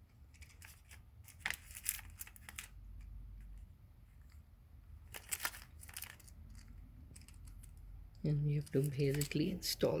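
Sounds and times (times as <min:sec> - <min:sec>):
plastic parts rustling: 0:00.1 - 0:10.0.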